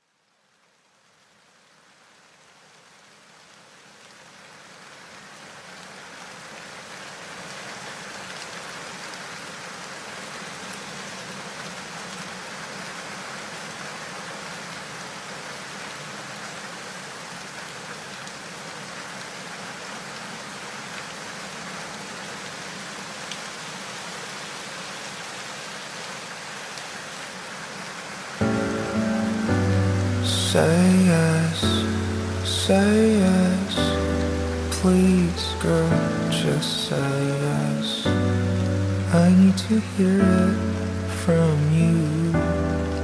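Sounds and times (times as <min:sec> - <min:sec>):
heavy rain hiss: 0:02.3 - 0:43.0.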